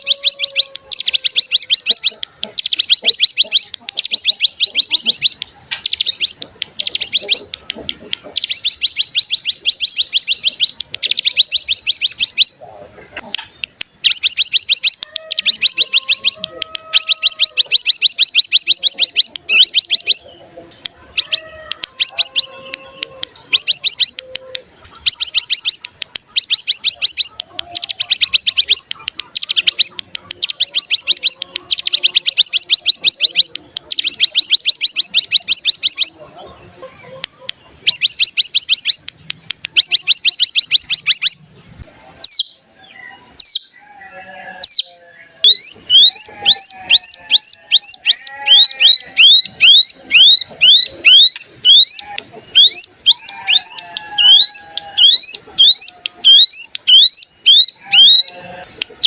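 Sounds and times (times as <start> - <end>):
bird singing rattling trills: 0.0 - 12.6, 13.4 - 36.2, 37.1 - 59.0.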